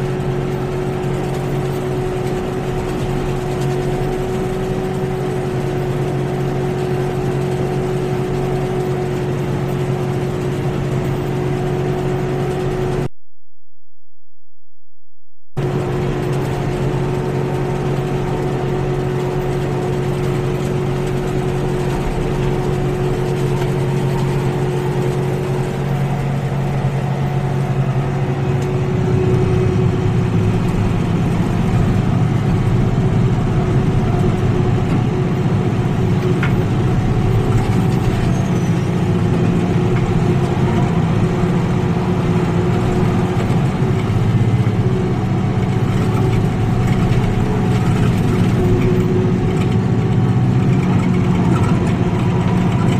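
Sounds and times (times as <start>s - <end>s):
tractor diesel engine running: 0.0s - 13.1s, 15.6s - 52.9s.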